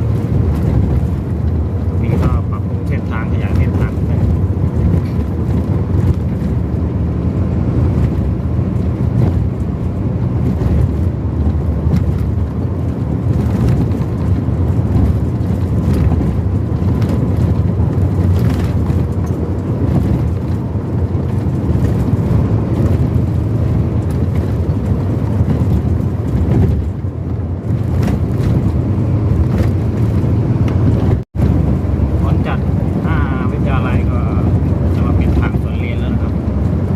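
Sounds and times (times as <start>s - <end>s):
road and engine rumble: 0.0s - 36.9s
wind buffeting microphone: 0.0s - 36.9s.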